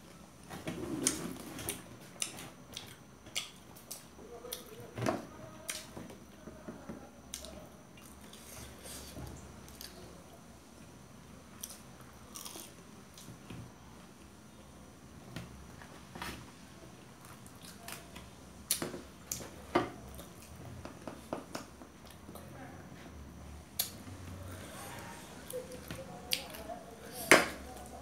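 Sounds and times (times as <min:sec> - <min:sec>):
people chewing food: 0:00.0 - 0:28.0.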